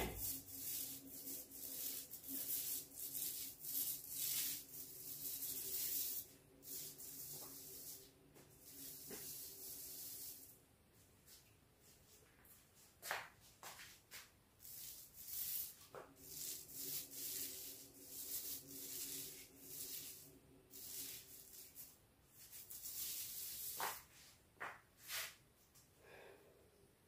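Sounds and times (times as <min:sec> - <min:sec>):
paintbrush swishing on wood: 0:00.0 - 0:24.4, 0:25.0 - 0:25.4.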